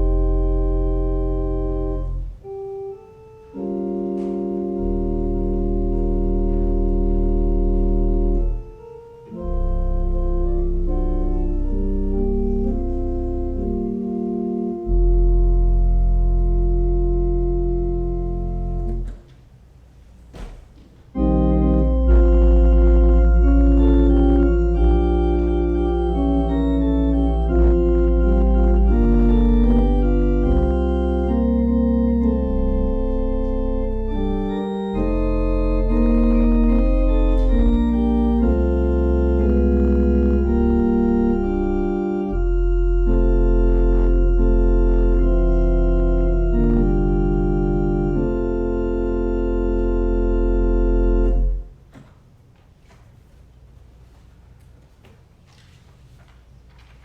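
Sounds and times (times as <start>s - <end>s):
organ playing sustained chords: 0.0s - 19.3s, 21.1s - 51.8s.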